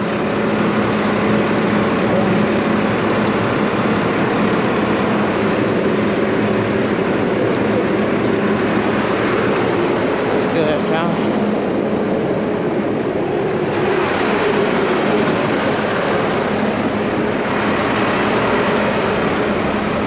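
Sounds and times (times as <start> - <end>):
engine idling low hum: 0.0 - 20.0
fan rushing air: 0.0 - 20.0.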